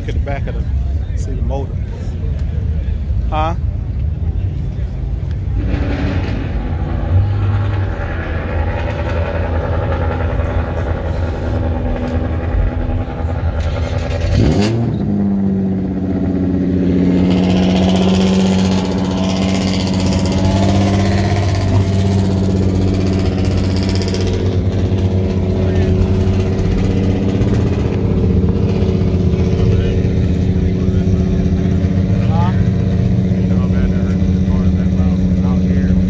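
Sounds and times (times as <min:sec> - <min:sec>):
car engines idling: 0:00.0 - 0:36.0
engine pitch swooping: 0:05.4 - 0:36.0.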